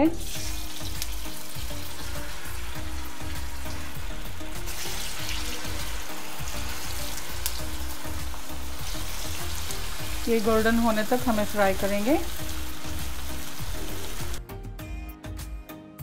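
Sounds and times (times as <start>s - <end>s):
background music with low beat: 0.0s - 16.0s
meatballs sizzling in hot oil: 0.1s - 14.4s
oil bubbling: 0.2s - 14.4s.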